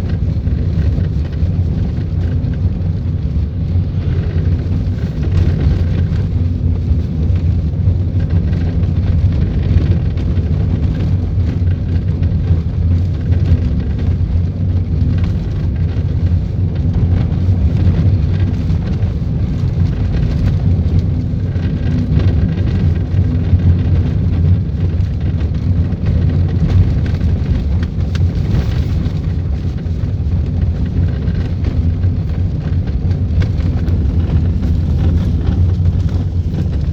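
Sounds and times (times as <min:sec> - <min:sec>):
road and engine rumble in car: 0:00.0 - 0:36.9.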